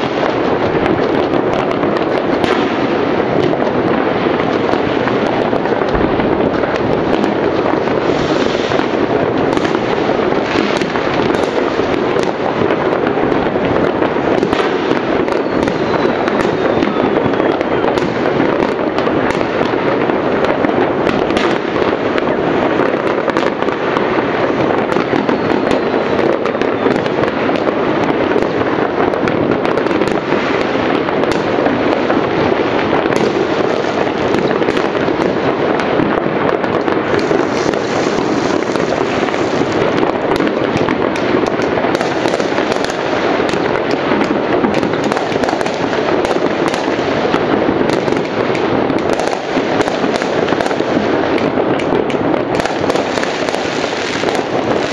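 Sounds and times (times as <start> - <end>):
fireworks and firecrackers banging: 0.0 - 54.9.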